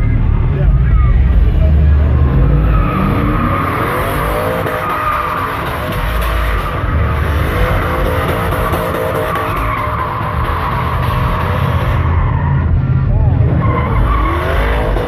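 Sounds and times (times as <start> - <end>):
truck engine revving high: 0.0 - 15.0
tyres squealing on pavement: 2.3 - 12.8, 13.4 - 15.0.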